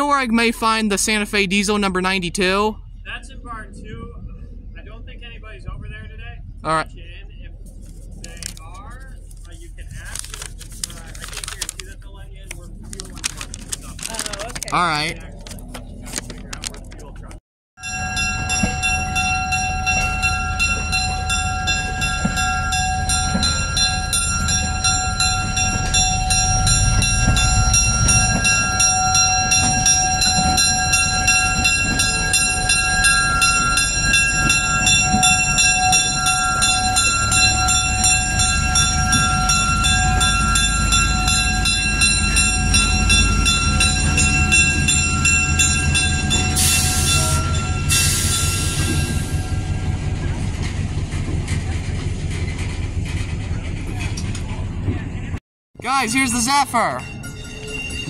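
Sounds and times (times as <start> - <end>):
locomotive rumble and whine: 0.0 - 55.4, 56.5 - 58.0.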